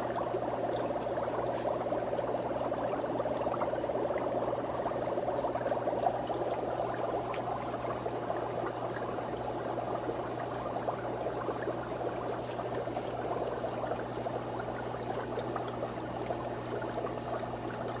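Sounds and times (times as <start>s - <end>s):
aquarium air bubbles fizzing: 0.0s - 18.0s
steady low hum: 0.0s - 18.0s.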